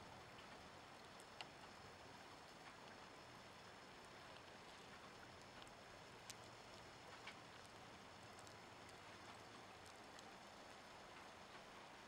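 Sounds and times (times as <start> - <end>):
faint steady hiss: 0.0 - 12.0
faint ticks: 0.1 - 12.0.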